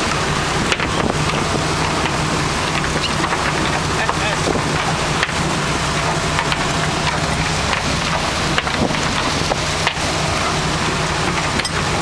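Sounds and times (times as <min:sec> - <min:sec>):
boat engine running: 0:00.0 - 0:12.0
water rushing in wake: 0:00.0 - 0:12.0.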